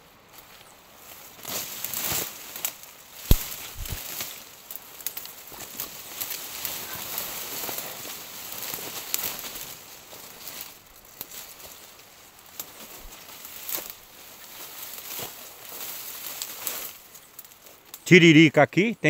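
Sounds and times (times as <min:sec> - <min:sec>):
brush and twigs rustling and snapping: 0:00.0 - 0:18.1.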